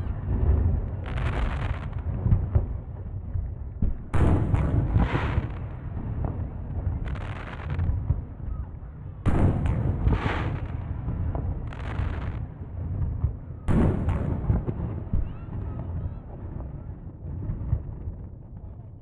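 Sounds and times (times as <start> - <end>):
crackling firework bursts: 0.0 - 3.0, 3.8 - 8.5, 9.3 - 18.8
fireworks booming: 0.0 - 19.0.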